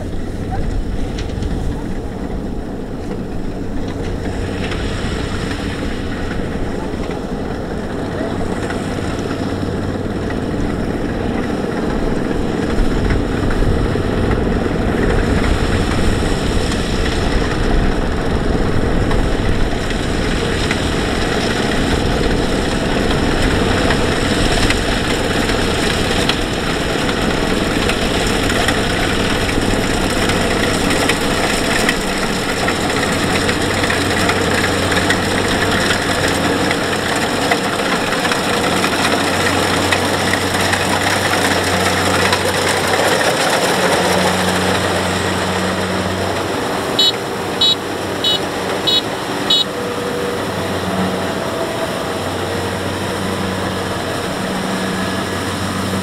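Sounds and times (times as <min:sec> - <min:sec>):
combine harvester engine droning: 0:00.0 - 0:56.0.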